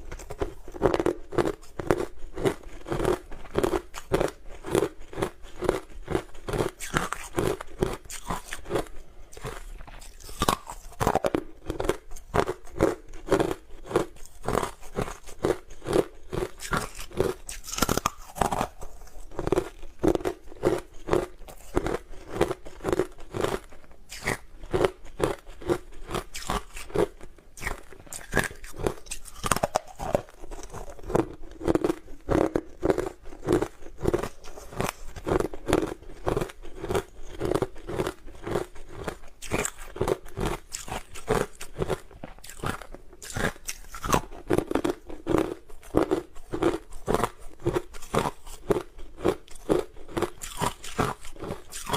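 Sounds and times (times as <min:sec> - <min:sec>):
chewing ice crunches: 0:00.0 - 0:51.9.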